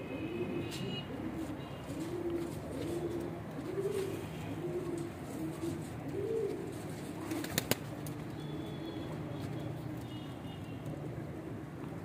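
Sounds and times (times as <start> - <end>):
pigeons cooing: 0.0 - 9.5, 11.0 - 11.7.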